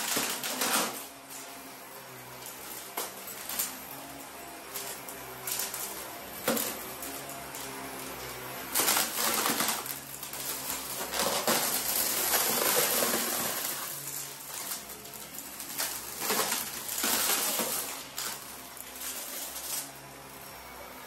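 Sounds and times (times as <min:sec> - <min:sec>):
stick vacuum running: 0:00.0 - 0:21.0.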